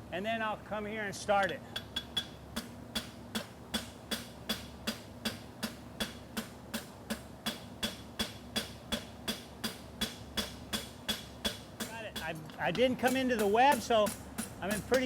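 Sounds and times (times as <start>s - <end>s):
hammer striking horseshoe on anvil: 1.4s - 15.0s.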